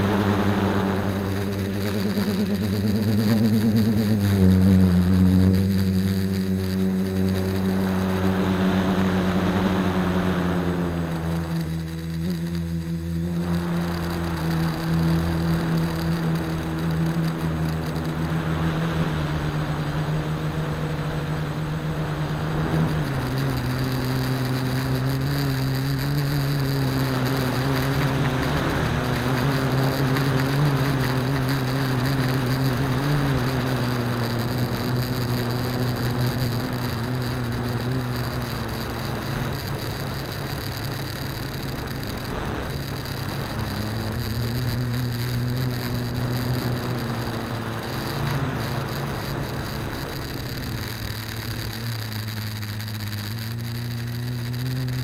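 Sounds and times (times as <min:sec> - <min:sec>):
quadcopter motors humming: 0:00.0 - 0:55.0.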